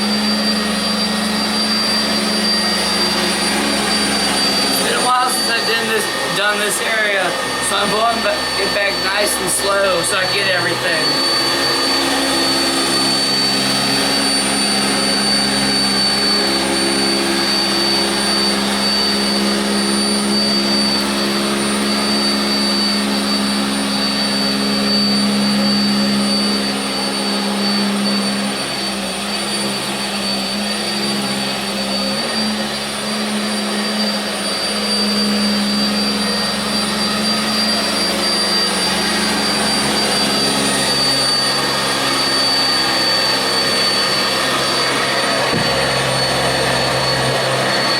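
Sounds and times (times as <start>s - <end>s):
upright vacuum cleaner running: 0.0s - 47.9s.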